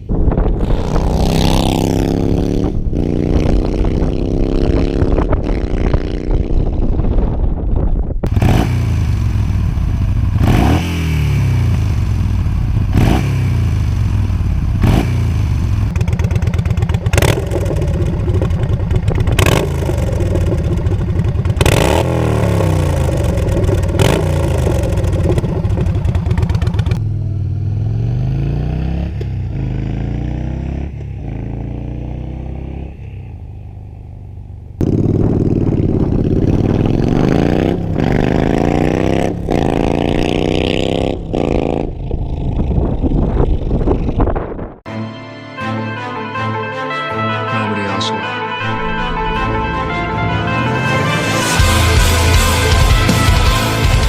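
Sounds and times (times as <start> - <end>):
motorcycle engine accelerating: 0.0 - 44.8, 48.7 - 54.0.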